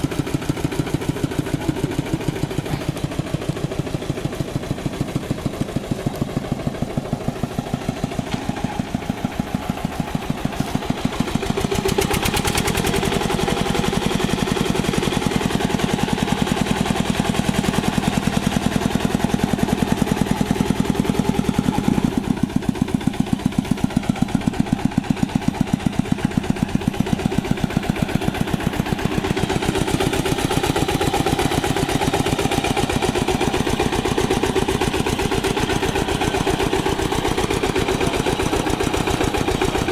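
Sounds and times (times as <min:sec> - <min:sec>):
diesel engine knocking: 0:00.0 - 0:39.9
tiller churning mud: 0:00.0 - 0:39.9.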